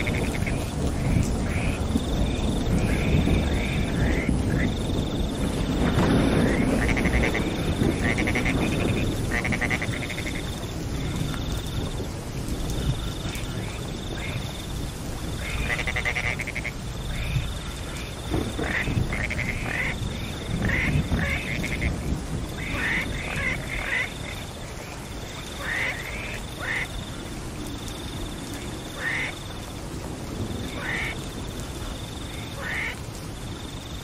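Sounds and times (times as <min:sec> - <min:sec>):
frogs calling: 0:00.0 - 0:29.8, 0:30.4 - 0:34.0
steady rain: 0:00.0 - 0:34.0.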